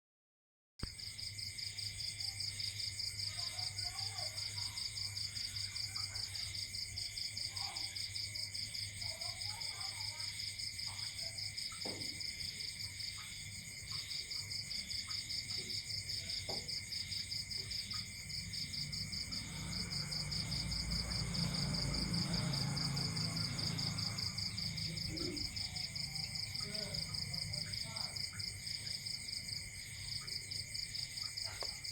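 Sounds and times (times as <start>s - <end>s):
insects chirring: 0.9s - 31.9s.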